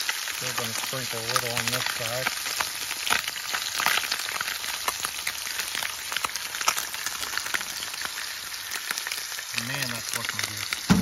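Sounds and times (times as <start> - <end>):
fish frying in butter: 0.0 - 11.0.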